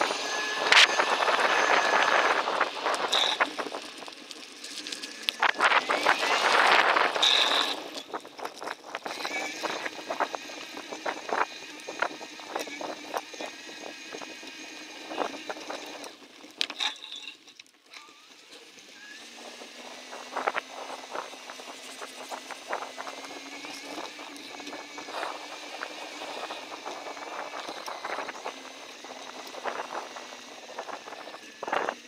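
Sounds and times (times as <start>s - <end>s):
bike clicks and rattles: 0.0s - 19.0s, 20.0s - 32.0s
bicycle tyres on dirt trail: 0.0s - 32.0s.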